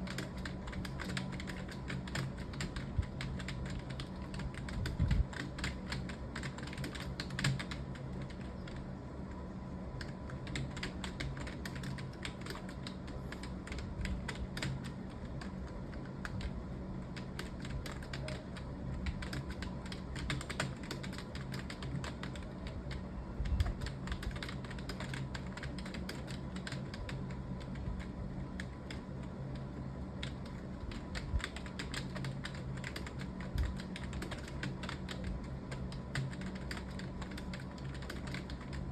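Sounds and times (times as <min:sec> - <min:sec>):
typing on computer keyboard: 0:00.0 - 0:08.9, 0:09.9 - 0:38.9
faint steady hum: 0:00.0 - 0:38.9.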